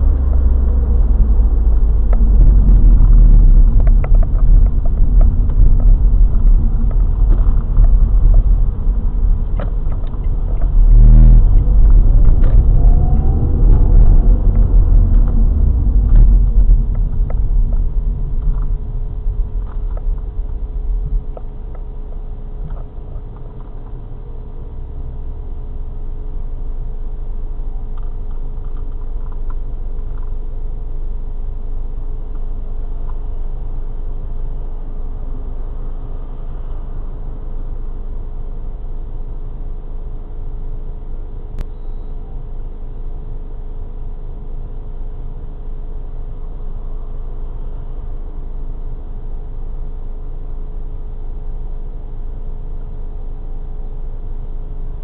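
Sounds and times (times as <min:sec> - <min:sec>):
car engine idling: 0:00.0 - 0:55.0
faint steady hum: 0:00.0 - 0:55.0.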